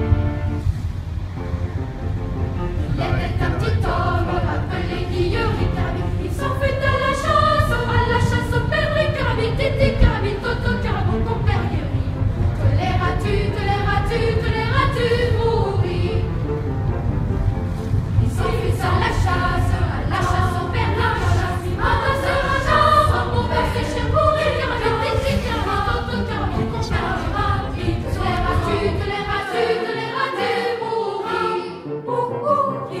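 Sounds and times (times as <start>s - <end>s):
low rumble: 0.0s - 29.5s
choir singing: 2.7s - 16.6s, 18.1s - 33.0s.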